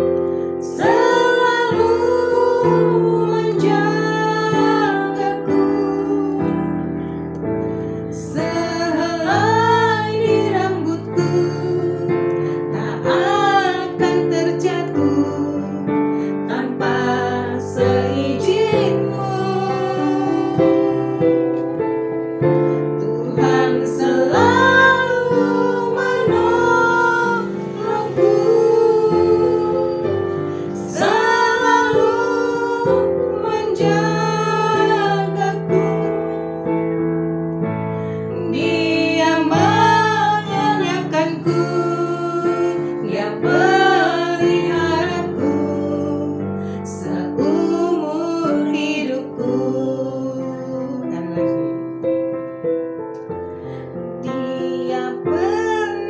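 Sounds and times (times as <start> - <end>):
piano chords: 0.0 - 56.0
women singing together: 0.5 - 7.0, 8.1 - 21.8, 22.8 - 36.6, 38.4 - 51.7, 54.2 - 56.0.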